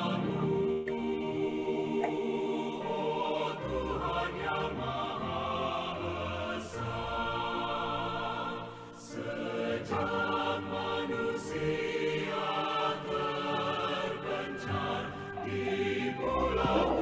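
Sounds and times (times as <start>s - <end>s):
choir singing with music: 0.0s - 17.0s.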